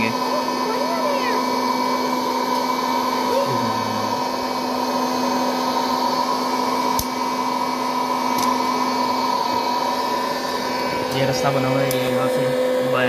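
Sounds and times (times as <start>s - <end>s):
popcorn maker fan whirring: 0.0s - 13.0s.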